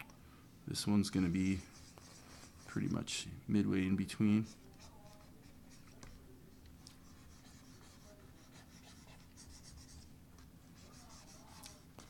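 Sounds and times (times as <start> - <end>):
stylus scratching on tablet: 1.0 - 3.2, 4.1 - 12.0.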